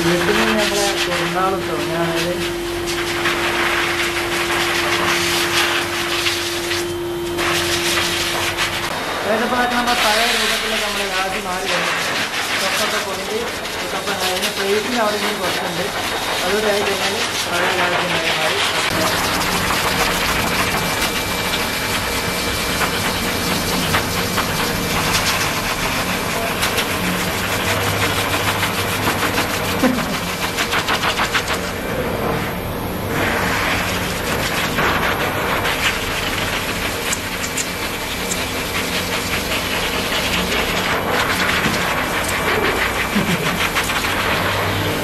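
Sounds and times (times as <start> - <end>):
pet blower dryer running: 0.0 - 45.0.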